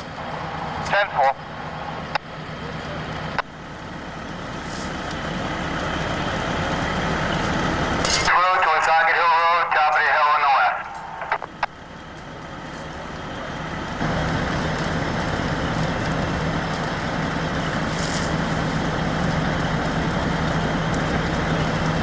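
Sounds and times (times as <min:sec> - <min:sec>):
fire truck engine hum: 0:00.0 - 0:22.0.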